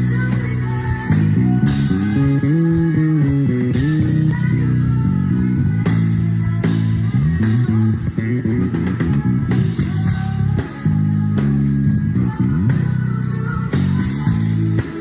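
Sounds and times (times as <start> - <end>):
drums: 0.0 - 15.0
electric bass sliding between notes: 0.0 - 15.0
live band music: 0.0 - 15.0.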